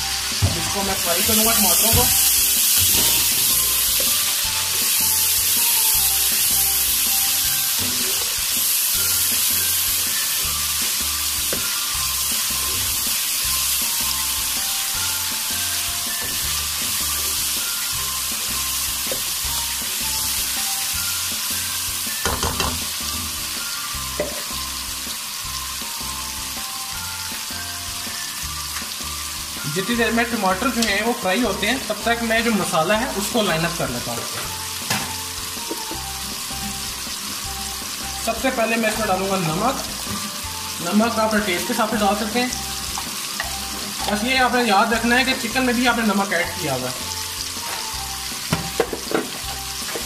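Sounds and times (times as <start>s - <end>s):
tomatoes sizzling in hot oil: 0.0s - 50.0s.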